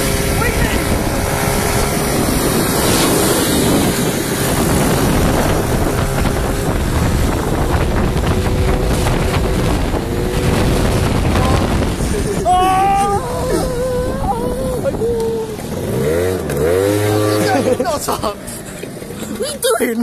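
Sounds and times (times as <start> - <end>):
small motorbike engine running: 0.0 - 19.6
wind buffeting microphone: 0.0 - 19.8.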